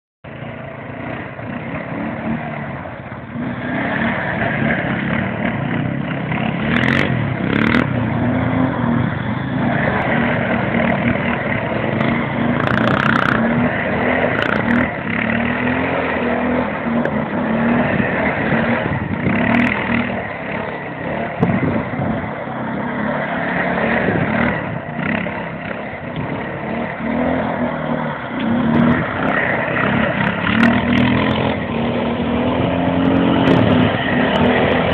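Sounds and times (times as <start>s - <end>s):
quad bike engine revving: 0.3s - 34.9s
tyres sliding on loose dirt: 6.3s - 34.9s.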